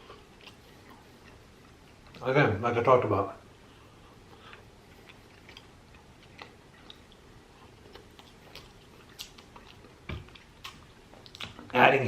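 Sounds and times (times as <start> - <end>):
person chewing food: 0.0 - 2.2, 3.6 - 11.8.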